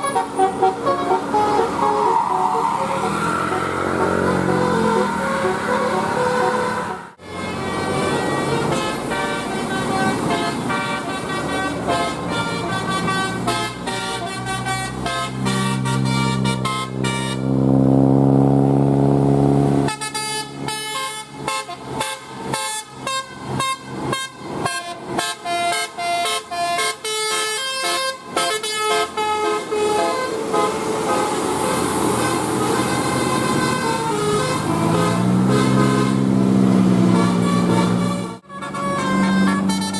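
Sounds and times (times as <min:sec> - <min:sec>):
choppy horn honks: 0:00.0 - 0:18.1, 0:19.6 - 0:39.9
bus multi-tone horn tune: 0:00.0 - 0:39.9
long low horn blast: 0:00.0 - 0:39.9.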